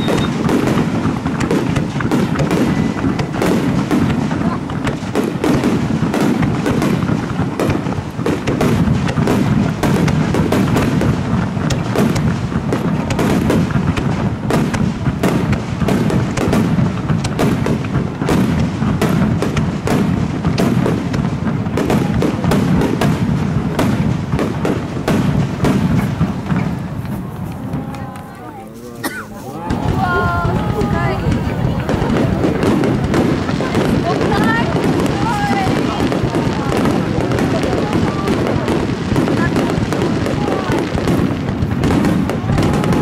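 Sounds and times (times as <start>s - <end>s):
firework shells bursting: 0.0s - 43.0s.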